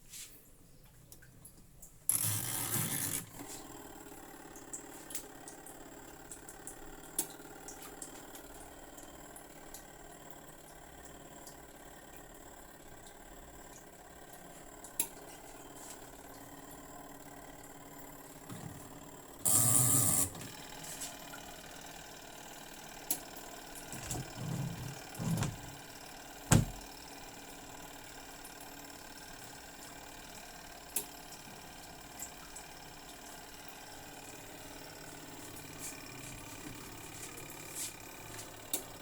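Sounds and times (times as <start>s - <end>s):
small motor humming: 2.1s - 10.1s, 15.4s - 39.0s.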